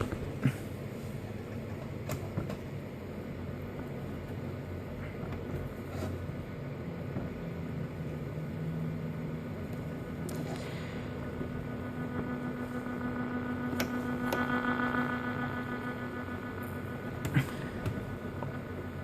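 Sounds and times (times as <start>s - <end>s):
low hum: 0.0s - 19.0s
radio static hiss: 0.0s - 19.0s.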